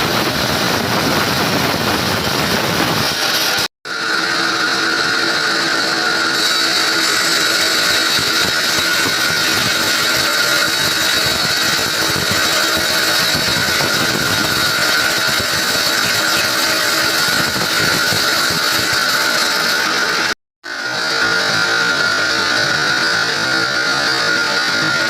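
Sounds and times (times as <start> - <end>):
power tool whirring: 0.0 - 25.0.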